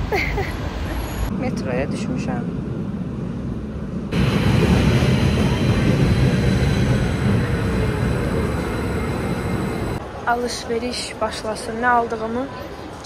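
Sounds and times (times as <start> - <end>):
metro train running: 0.0 - 13.0.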